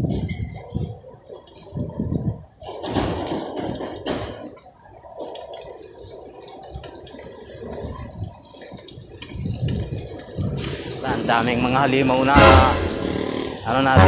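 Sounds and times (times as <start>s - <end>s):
bicycle tyres on wet pavement: 0.0s - 14.0s.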